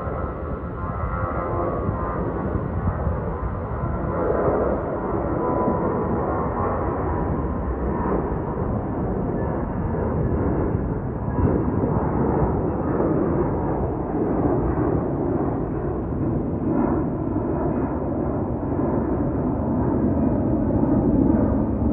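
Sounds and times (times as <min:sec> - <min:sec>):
jet engines rumbling: 0:00.0 - 0:21.9.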